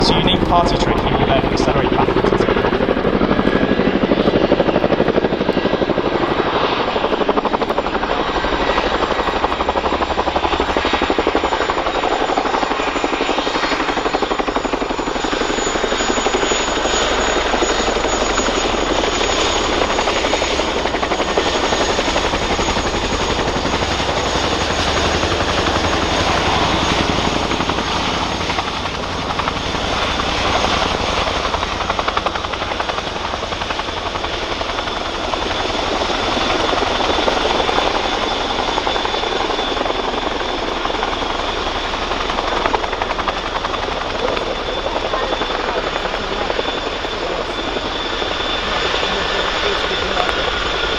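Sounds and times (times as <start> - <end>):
helicopter rotors beating: 0.0 - 50.9
high turbine whine: 0.0 - 50.9.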